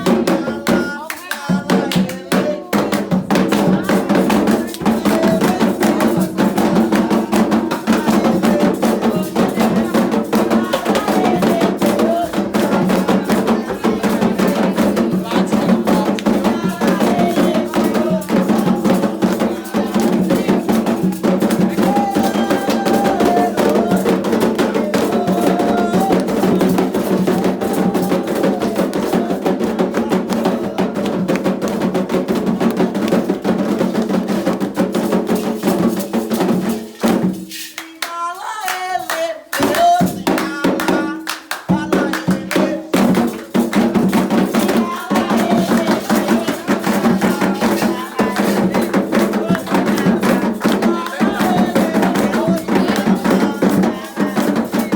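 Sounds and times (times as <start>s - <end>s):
fast hand drumming: 0.0s - 37.6s, 38.7s - 54.9s
group singing: 0.0s - 54.9s.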